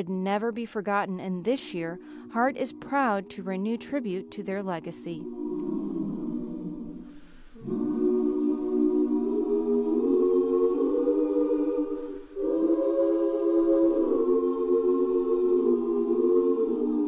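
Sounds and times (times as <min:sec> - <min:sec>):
choir singing long-held chords: 0:01.7 - 0:17.0.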